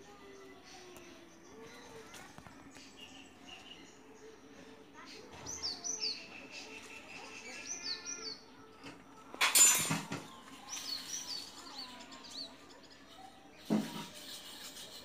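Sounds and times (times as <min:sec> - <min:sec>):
small birds chirping: 0:00.0 - 0:09.4, 0:10.1 - 0:15.0.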